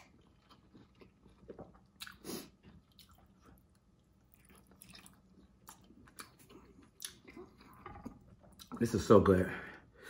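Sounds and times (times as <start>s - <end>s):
wet chewing and lip smacks: 0.0s - 8.8s.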